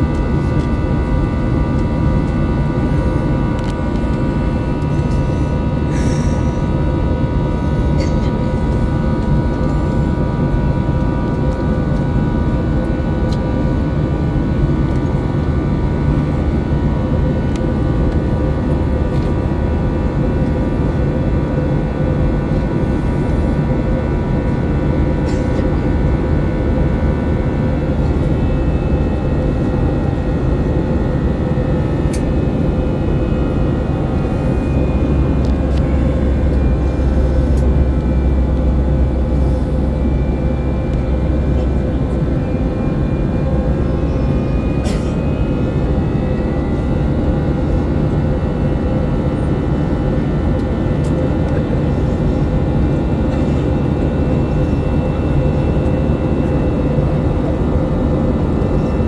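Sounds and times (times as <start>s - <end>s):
deep rumble: 0.0s - 59.0s
jet engine and airflow drone: 0.0s - 59.0s.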